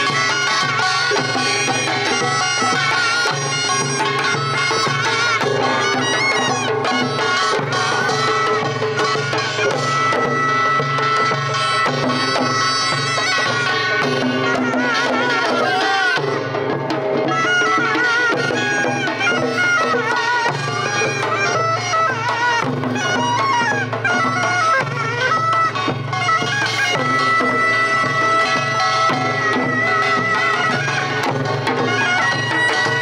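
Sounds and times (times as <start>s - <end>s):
barrel drums beating: 0.0s - 33.0s
double-reed shawm melody: 0.0s - 33.0s.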